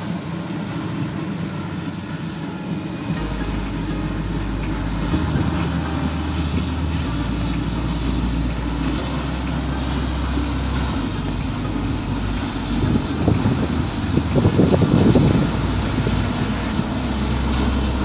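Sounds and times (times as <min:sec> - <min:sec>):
combine harvester engine and threshing: 0:00.0 - 0:18.0.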